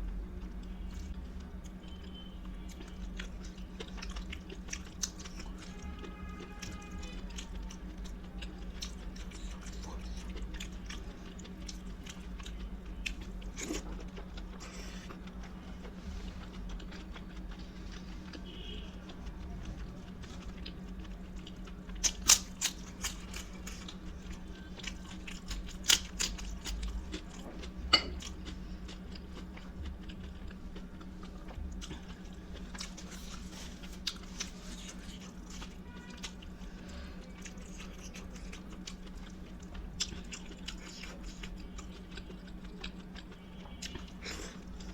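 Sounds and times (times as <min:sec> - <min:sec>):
food crunching: 0:00.0 - 0:44.9
person chewing food: 0:00.0 - 0:44.9.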